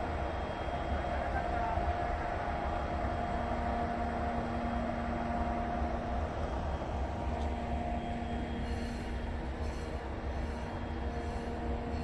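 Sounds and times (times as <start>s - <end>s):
electric locomotive humming: 0.0s - 12.0s.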